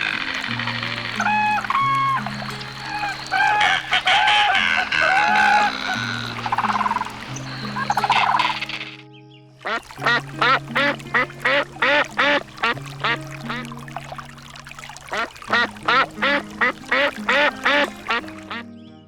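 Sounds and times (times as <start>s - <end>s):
duck quacking: 0.0s - 9.0s, 9.6s - 13.7s, 15.1s - 18.6s.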